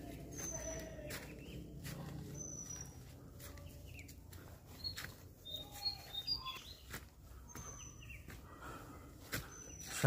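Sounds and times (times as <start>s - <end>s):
birds chirping: 0.0s - 10.0s
footsteps on leaf-covered trail: 0.0s - 10.0s.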